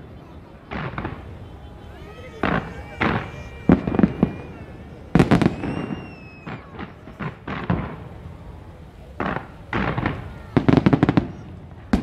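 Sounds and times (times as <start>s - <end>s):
fireworks banging: 0.0s - 12.0s
fireworks crackling: 0.0s - 12.0s
falling whistle: 0.8s - 11.5s.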